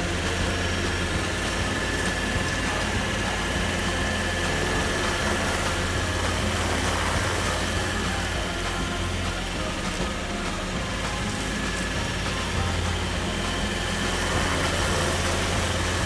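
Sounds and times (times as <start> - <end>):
high whine: 0.0 - 16.0
stump grinder grinding: 0.0 - 16.0.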